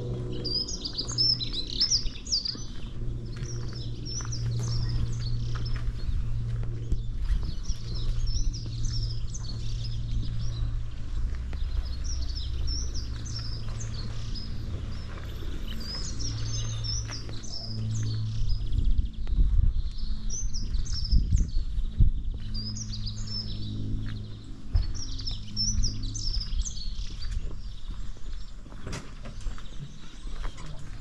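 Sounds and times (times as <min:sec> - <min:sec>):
songbirds chirping and singing: 0:00.0 - 0:31.0
steady low rumble: 0:00.0 - 0:31.0.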